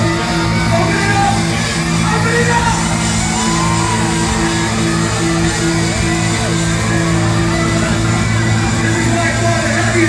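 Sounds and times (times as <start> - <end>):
bass guitar: 0.0 - 10.0
drums: 0.0 - 10.0
electric guitar riff: 0.0 - 10.0.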